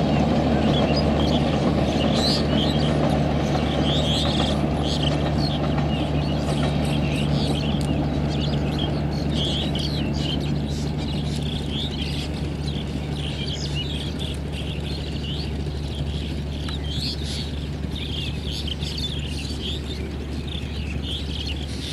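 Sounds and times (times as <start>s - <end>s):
birds chirping: 0.0s - 21.9s
distant diesel train drone: 0.0s - 21.9s.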